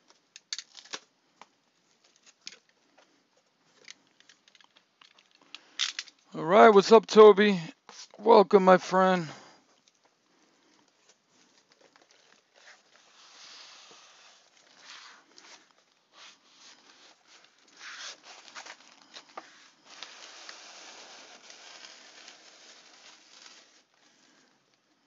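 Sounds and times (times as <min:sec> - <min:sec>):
wrapping rustling and crinkling: 0:00.0 - 0:06.4, 0:09.7 - 0:25.0.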